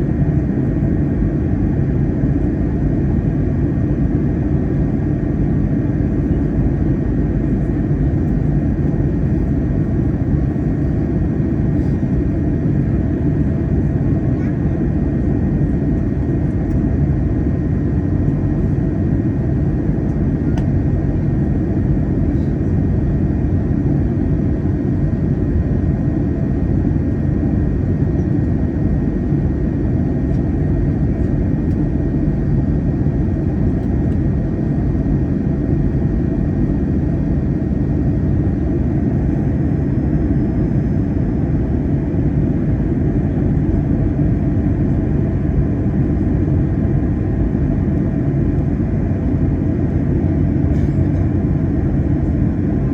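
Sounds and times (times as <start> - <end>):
aircraft cabin rumble: 0.0 - 52.9.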